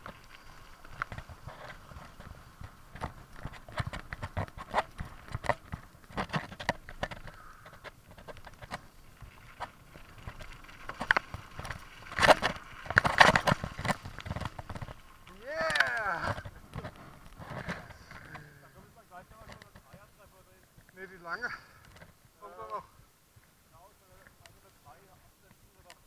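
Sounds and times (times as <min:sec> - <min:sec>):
mountain bike rattling over trail: 0:00.0 - 0:22.8.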